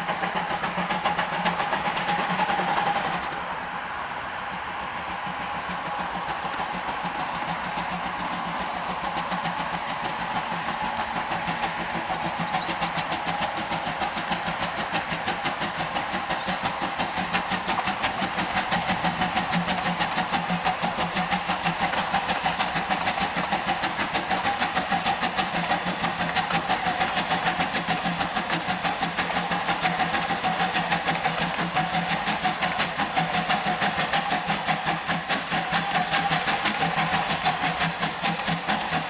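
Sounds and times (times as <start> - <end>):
steam hiss: 0.0 - 39.0
steam locomotive chuffing: 0.0 - 39.0.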